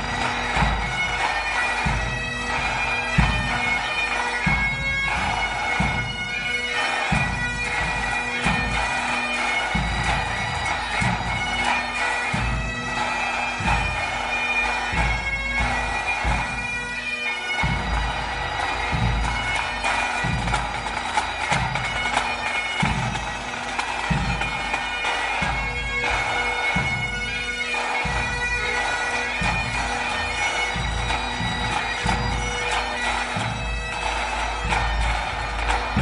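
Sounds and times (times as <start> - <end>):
bagpipes drone and melody: 0.0 - 36.0
drums beating time: 0.0 - 36.0.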